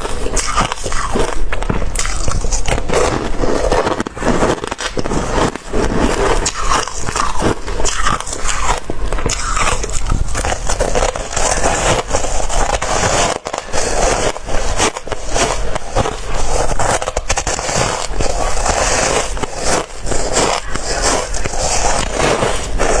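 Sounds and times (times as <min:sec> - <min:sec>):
ice being chewed: 0:00.0 - 0:23.0.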